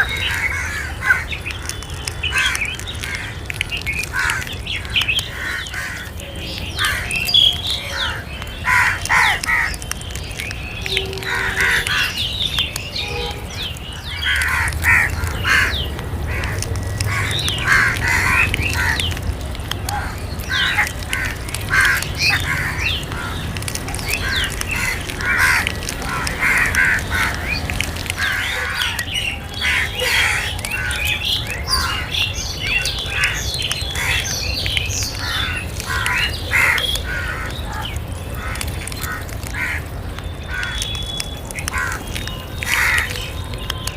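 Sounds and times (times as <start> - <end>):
crows cawing: 0.0 - 6.2, 6.8 - 9.8, 10.8 - 12.3, 14.0 - 19.2, 19.8 - 34.4, 35.0 - 40.9, 41.5 - 43.3.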